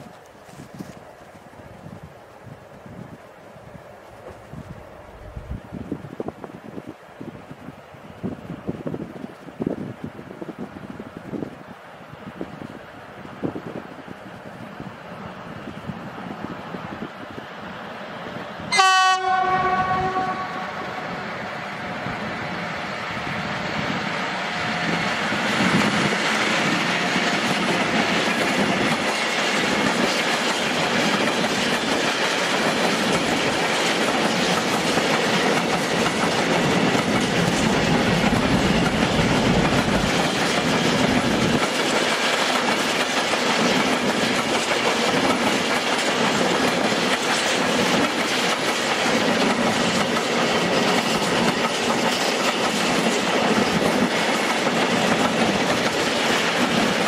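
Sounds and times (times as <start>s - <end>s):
freight train wheels rolling on rails: 0.0s - 57.0s.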